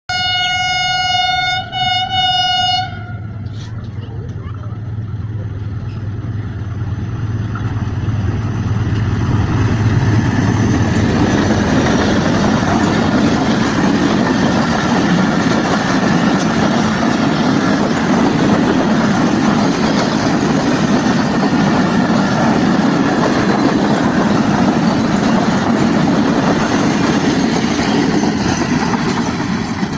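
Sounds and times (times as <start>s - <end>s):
train wheels rumbling on rails: 1.1s - 29.9s.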